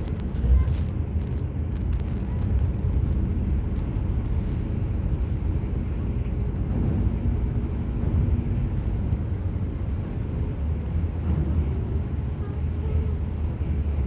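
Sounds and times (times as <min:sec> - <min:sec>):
ship engines rumbling: 0:00.0 - 0:14.0.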